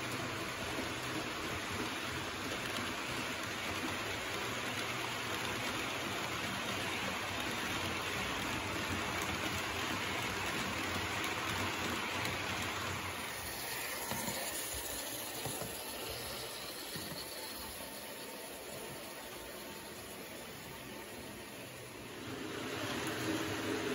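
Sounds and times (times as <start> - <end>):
model train wheels rattling on rails: 0.0 - 23.9.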